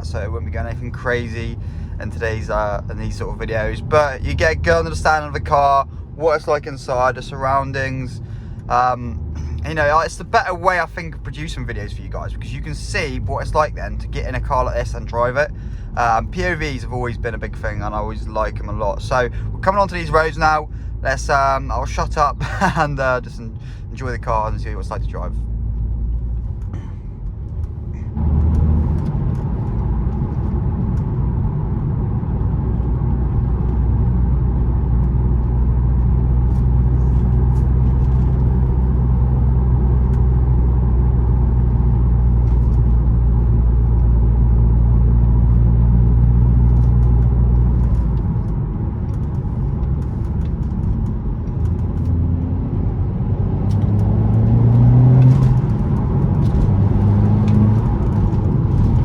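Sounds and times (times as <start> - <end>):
car engine heard from cabin: 0.0 - 59.0.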